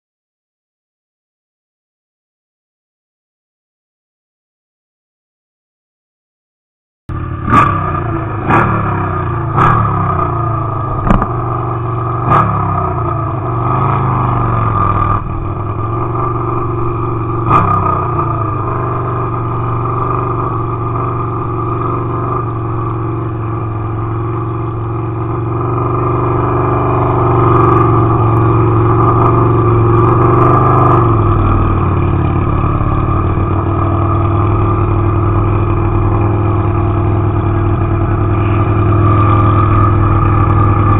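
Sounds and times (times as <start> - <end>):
motorcycle engine revving and idling: 7.1 - 40.9.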